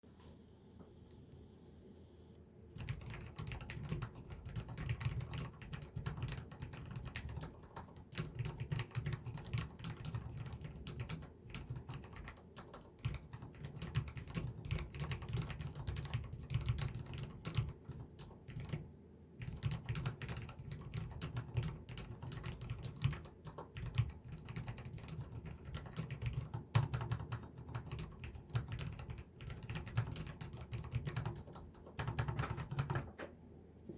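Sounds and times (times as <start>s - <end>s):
fast keyboard typing: 2.7s - 18.8s, 19.4s - 33.2s.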